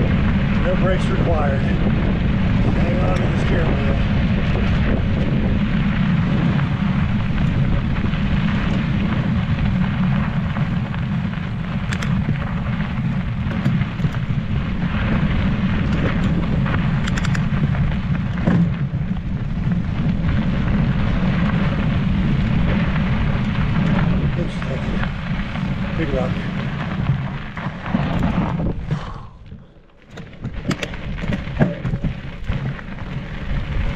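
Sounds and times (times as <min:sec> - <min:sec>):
bike clicks and rattles: 0:00.0 - 0:33.9
tyres crunching on gravel: 0:00.0 - 0:33.9
wind buffeting microphone: 0:00.0 - 0:33.9.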